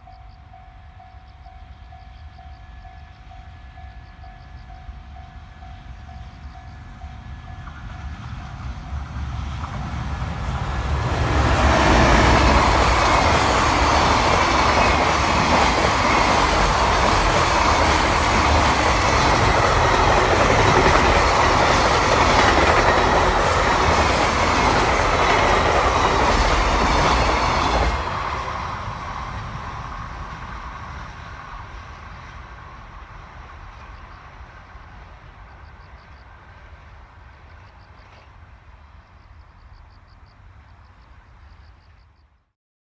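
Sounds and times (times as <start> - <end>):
wheels running on rails: 0.0 - 37.3
freight train passing: 0.0 - 42.3.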